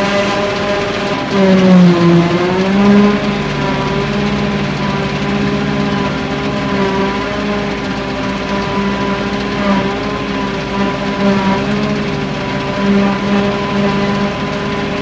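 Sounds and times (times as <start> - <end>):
forage harvester engine drone: 0.0 - 15.0.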